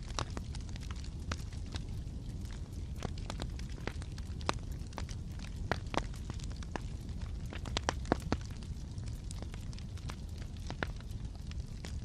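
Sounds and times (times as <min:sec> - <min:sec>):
fire crackling and popping: 0:00.0 - 0:12.0
fire rumbling: 0:00.0 - 0:12.0.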